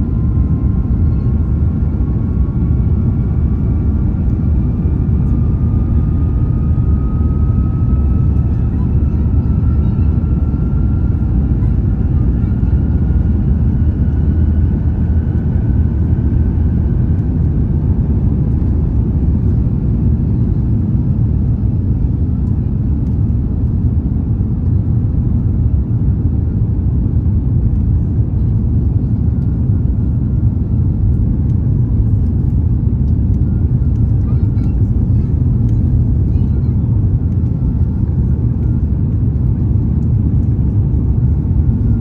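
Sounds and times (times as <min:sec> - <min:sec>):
airplane cabin deep rumble: 0:00.0 - 0:42.0.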